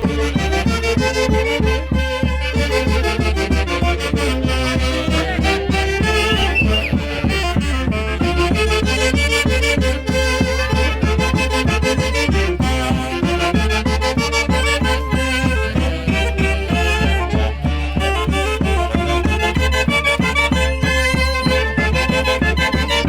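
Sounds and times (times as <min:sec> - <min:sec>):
live band playing festive music: 0:00.0 - 0:23.0.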